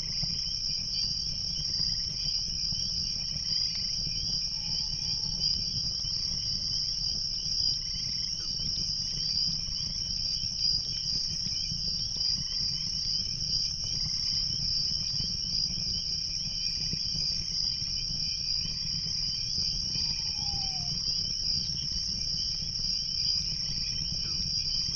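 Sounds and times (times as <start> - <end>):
crickets chirping: 0.0 - 24.9.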